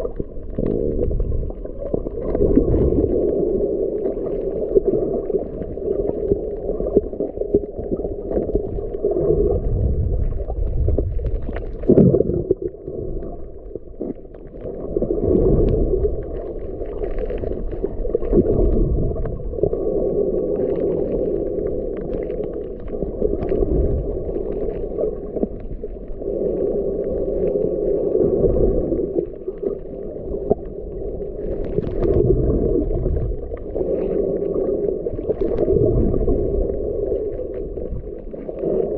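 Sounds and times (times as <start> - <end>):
water sloshing underwater: 0.0 - 38.9.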